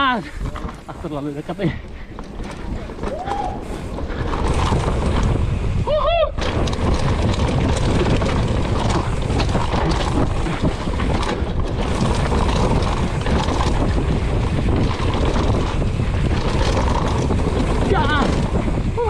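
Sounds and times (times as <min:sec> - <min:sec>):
bike rattling and clicking: 0:00.0 - 0:19.0
wind buffeting microphone: 0:00.0 - 0:19.0.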